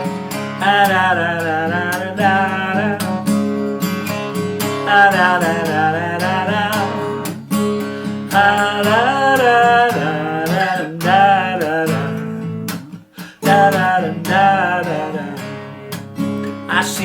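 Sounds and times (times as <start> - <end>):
man singing wordless melody: 0.0 - 17.0
strummed acoustic guitar: 0.0 - 17.0.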